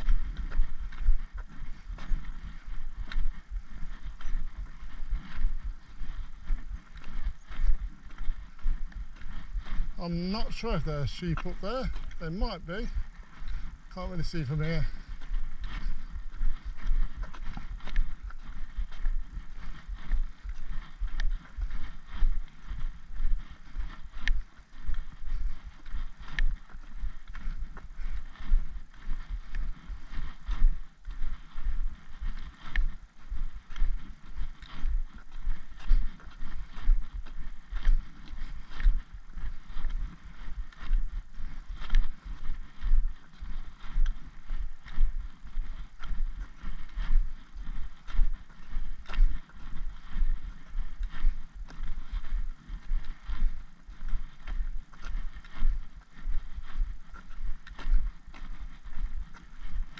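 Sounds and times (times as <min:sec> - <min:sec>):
footsteps on gravel and tarmac: 0:00.0 - 0:59.9.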